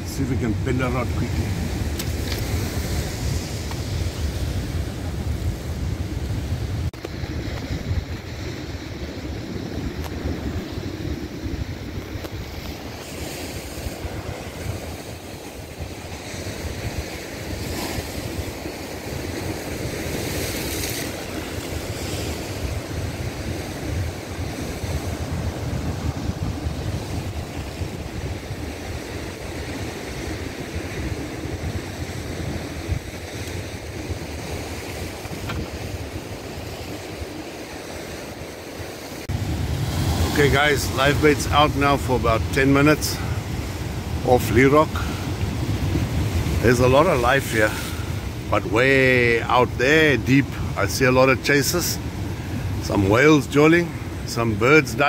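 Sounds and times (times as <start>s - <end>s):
surf breaking over rocks: 0.0s - 55.0s
wind buffeting microphone: 0.0s - 55.0s.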